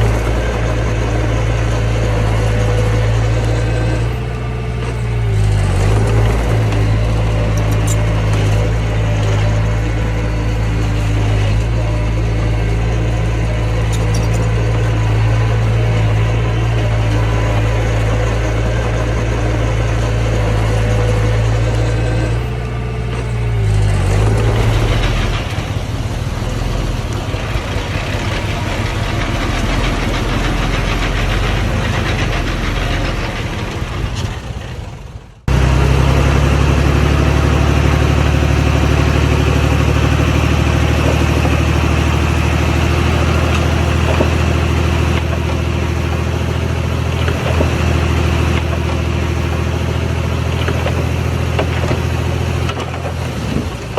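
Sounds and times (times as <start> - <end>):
diesel engine of heavy machinery: 0.0 - 53.9
steady engine sound: 0.0 - 53.9.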